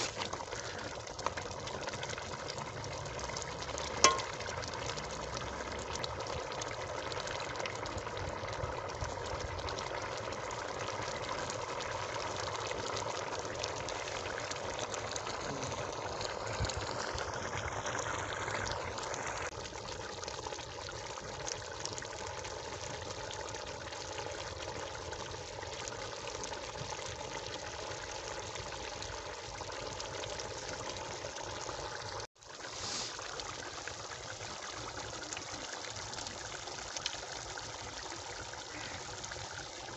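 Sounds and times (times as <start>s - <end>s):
gravy simmering and bubbling: 0.0s - 39.9s.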